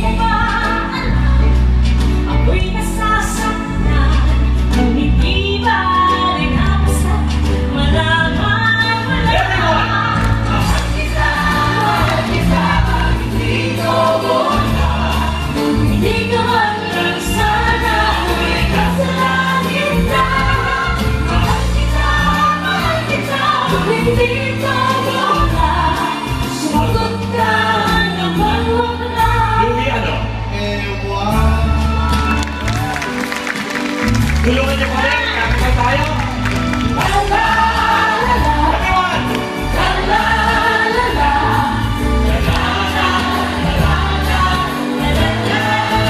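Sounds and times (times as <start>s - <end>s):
singers in harmony: 0.0s - 33.6s, 36.7s - 46.0s.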